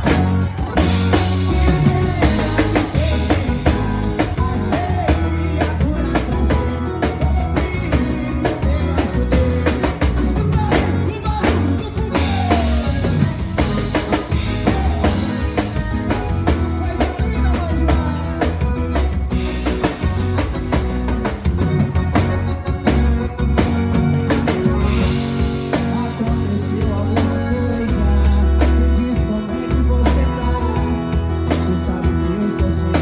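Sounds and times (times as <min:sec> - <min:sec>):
drum kit playing: 0:00.0 - 0:33.0
recorded song with heavy bass: 0:00.0 - 0:33.0.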